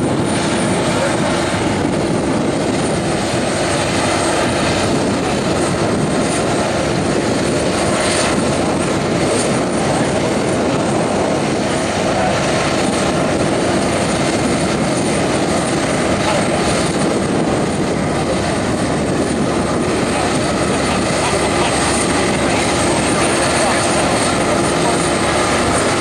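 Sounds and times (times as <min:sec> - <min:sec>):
compost turner engine and drum drone: 0:00.0 - 0:26.0.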